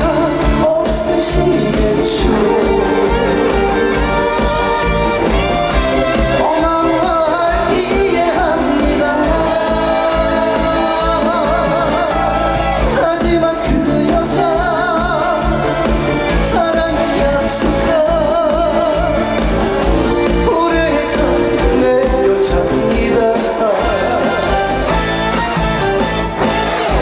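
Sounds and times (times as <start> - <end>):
trot music through sound system: 0.0 - 27.0.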